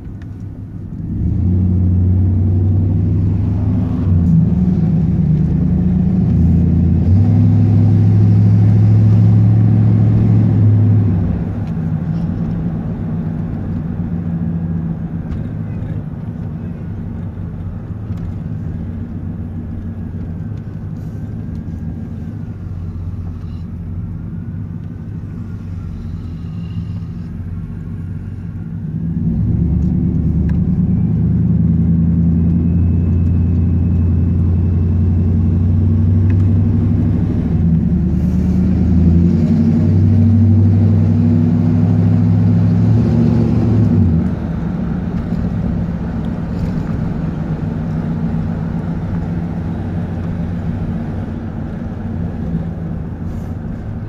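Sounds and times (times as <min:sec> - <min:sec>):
engine exhaust drone: 0:00.0 - 0:54.0.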